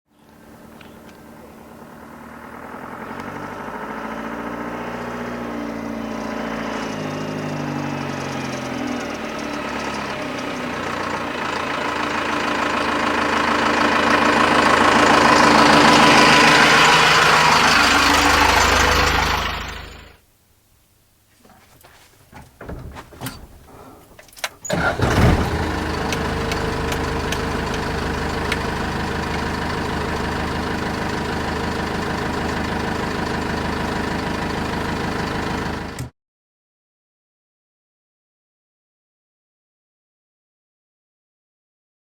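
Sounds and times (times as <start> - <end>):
diesel engine running: 0.2 - 20.2, 22.4 - 36.1.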